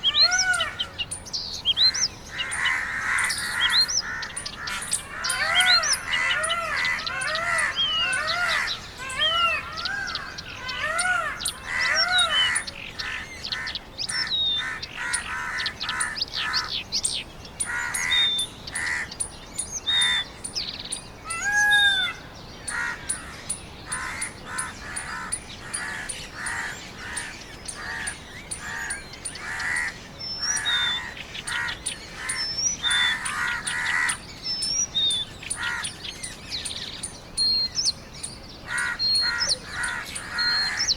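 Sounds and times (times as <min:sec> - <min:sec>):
arched pitched bird calls: 0:00.0 - 0:40.9.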